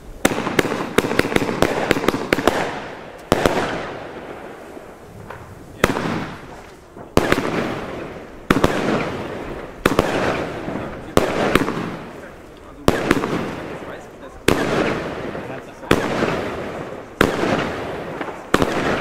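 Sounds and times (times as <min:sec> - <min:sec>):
firework bangs: 0:00.0 - 0:19.0
firework crackle: 0:00.0 - 0:19.0.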